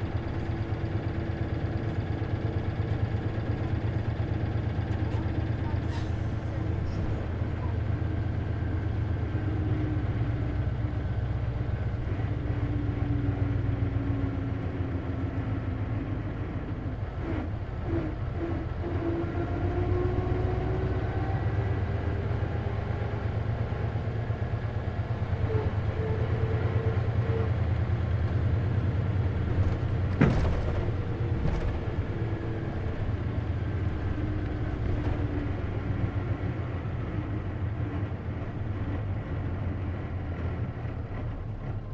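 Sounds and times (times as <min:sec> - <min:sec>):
bus engine drone: 0:00.0 - 0:41.9.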